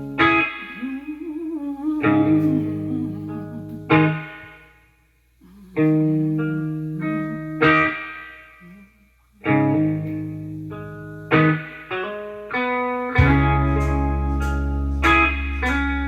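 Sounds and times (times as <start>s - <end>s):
guitar playing slow blues chords: 0.0s - 4.7s, 5.8s - 8.8s, 9.4s - 16.0s.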